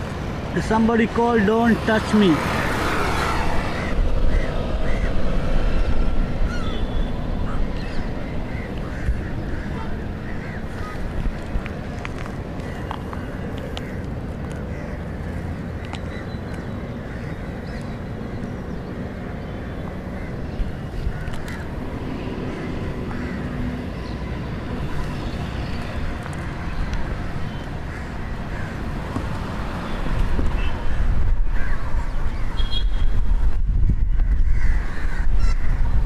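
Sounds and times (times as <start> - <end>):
birds calling: 0.0 - 33.1, 34.0 - 36.0
traffic hum: 0.0 - 36.0.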